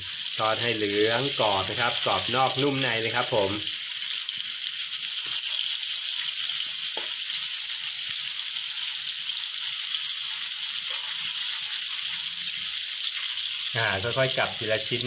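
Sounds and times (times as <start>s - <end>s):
tofu sizzling in hot oil: 0.0s - 15.0s.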